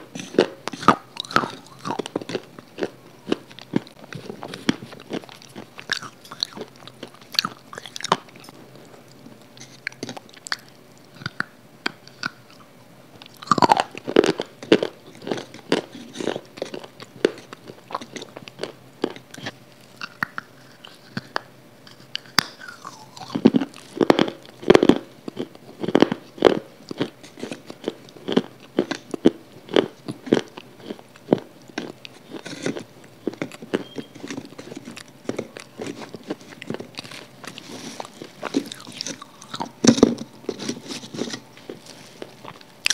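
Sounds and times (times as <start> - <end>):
crunchy food chewing: 0.0 - 42.9.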